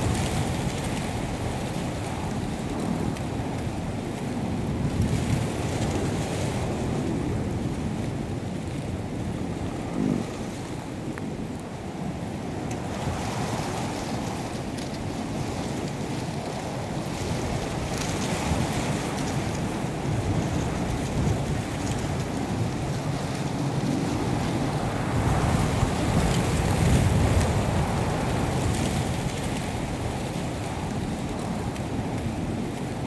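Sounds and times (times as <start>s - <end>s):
wind blowing across microphone: 0.0s - 33.0s.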